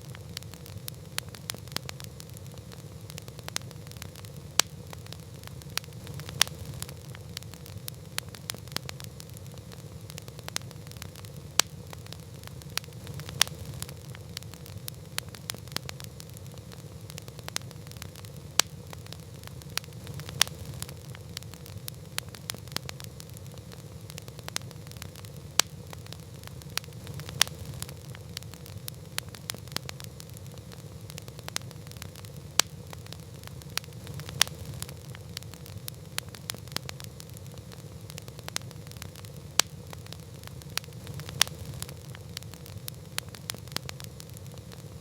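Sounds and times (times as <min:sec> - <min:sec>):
campfire crackling and popping: 0:00.0 - 0:45.0
low fire rumble: 0:00.0 - 0:45.0.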